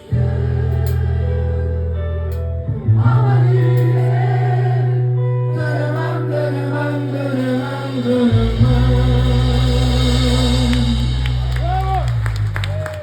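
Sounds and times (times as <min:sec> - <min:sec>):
voices singing: 0:00.0 - 0:02.0, 0:02.8 - 0:11.7
live band with bass chords: 0:00.0 - 0:13.0.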